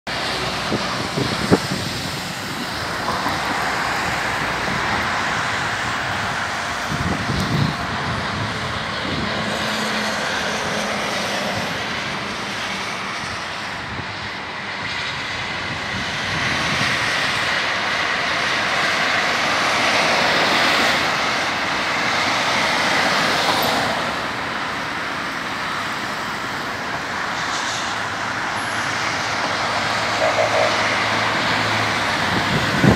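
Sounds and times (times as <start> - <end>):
heavy road traffic: 0.0 - 32.9.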